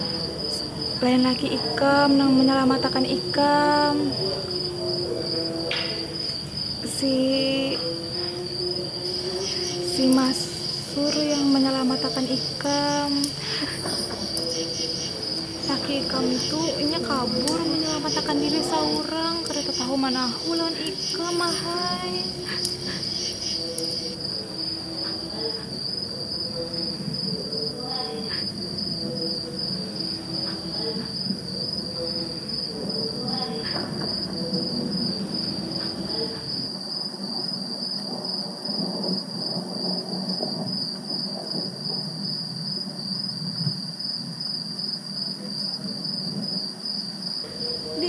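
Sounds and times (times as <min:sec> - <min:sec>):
crickets chirring: 0:00.0 - 0:48.0.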